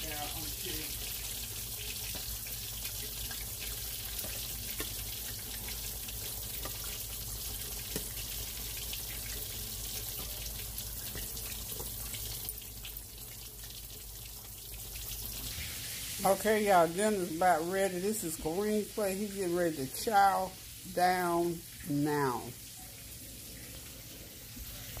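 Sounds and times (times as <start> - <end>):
fish frying in hot oil: 0.0 - 25.0.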